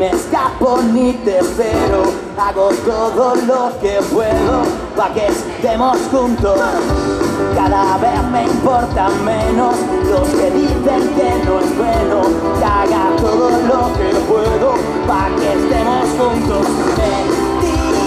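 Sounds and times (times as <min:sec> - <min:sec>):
drums steady beat: 0:00.0 - 0:18.0
live rock band over speakers: 0:00.0 - 0:18.0.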